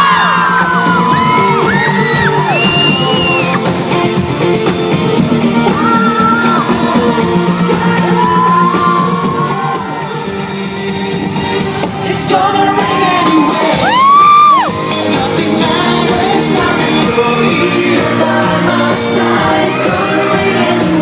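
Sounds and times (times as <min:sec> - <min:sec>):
crowd screaming and whooping: 0:00.0 - 0:04.1, 0:05.1 - 0:21.0
live pop music over speakers: 0:00.0 - 0:21.0.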